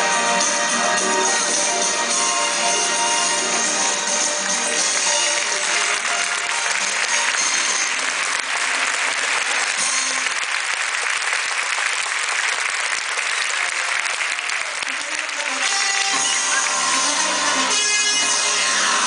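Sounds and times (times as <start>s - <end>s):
audience applauding: 1.1s - 19.0s.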